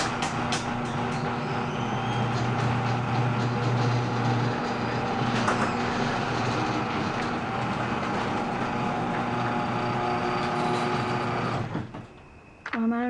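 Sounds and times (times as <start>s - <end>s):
garage door opener running: 0.0s - 12.7s
door hardware squeaking and grinding: 0.0s - 12.8s.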